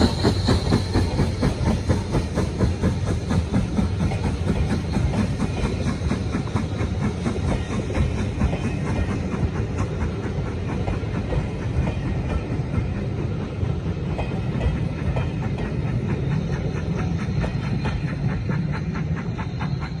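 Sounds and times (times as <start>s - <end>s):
train coaches rumbling past: 0.0s - 20.0s
wheels clicking over rail joints: 0.0s - 20.0s.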